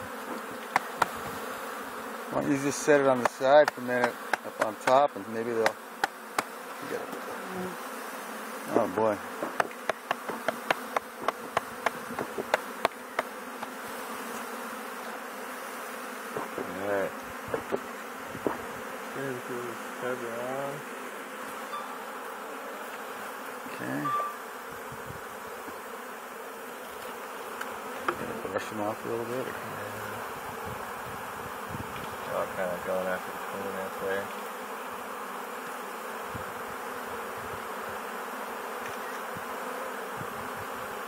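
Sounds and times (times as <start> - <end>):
bees buzzing: 0.0 - 41.0.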